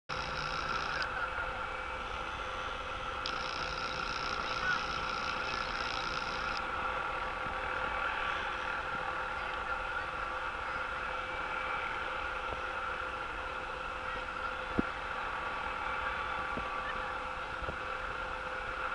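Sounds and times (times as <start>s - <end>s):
helicopter hovering: 0.1s - 18.9s
rushing background noise: 0.1s - 18.9s.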